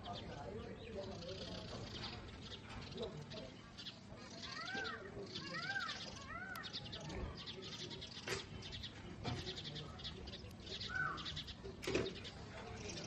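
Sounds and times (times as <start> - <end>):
cage birds twittering: 0.0 - 13.0
loud arching bird chirp: 0.0 - 13.0.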